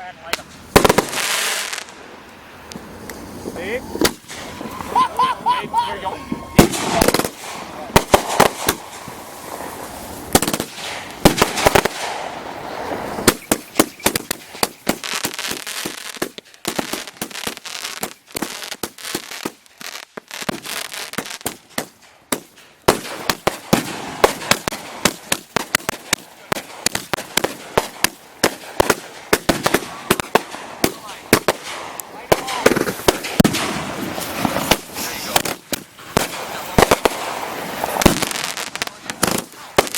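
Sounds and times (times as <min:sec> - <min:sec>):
fireworks bangs and crackling: 0:00.0 - 0:39.9
fireworks hissing: 0:00.0 - 0:39.9.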